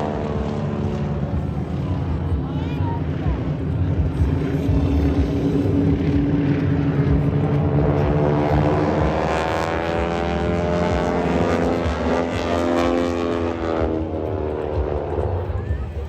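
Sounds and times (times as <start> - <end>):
low rumble: 0.0 - 16.0
propeller airplane flying by: 0.0 - 16.0.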